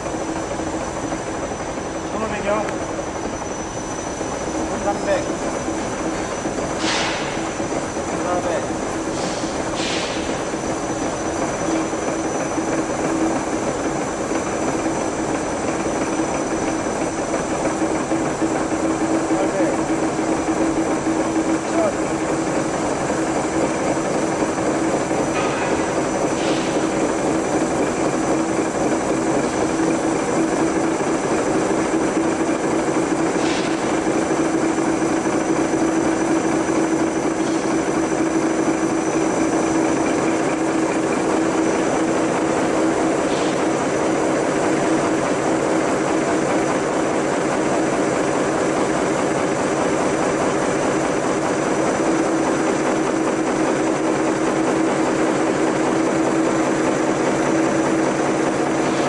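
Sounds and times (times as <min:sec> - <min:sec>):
machine hum with steady tone: 0:00.0 - 0:59.0.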